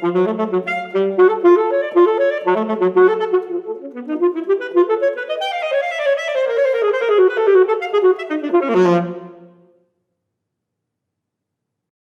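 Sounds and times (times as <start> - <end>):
solo alto saxophone: 0.0 - 9.8.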